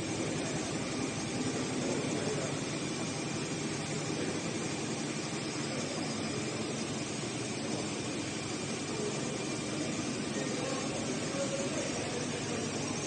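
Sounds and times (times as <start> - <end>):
machinery humming and hissing: 0.0 - 13.0.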